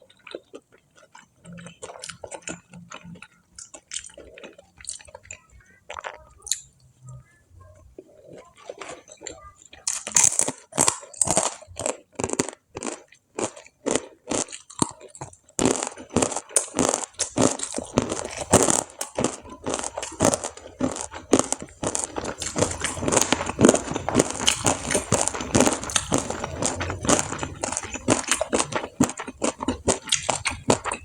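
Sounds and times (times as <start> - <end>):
chewing crisp food: 0.0 - 31.0.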